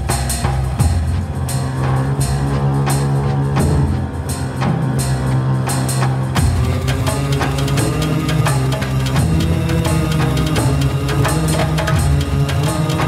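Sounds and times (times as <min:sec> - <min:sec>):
dramatic orchestral score: 0:00.0 - 0:13.0
steady drum beat: 0:00.0 - 0:13.0.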